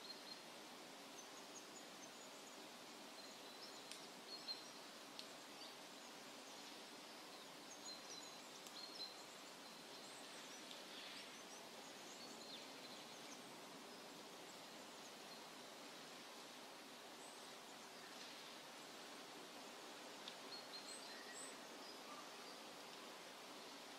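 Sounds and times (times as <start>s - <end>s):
faint outdoor ambience: 0.0s - 23.9s.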